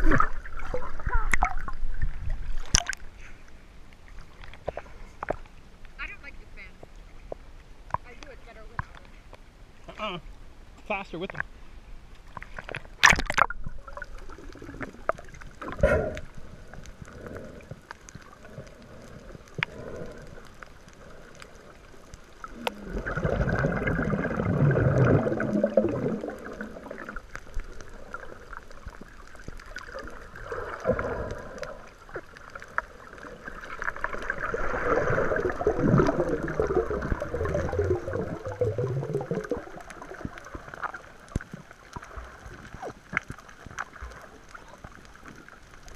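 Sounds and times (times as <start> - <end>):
water splashing and gurgling: 0.0 - 6.2, 12.2 - 45.9.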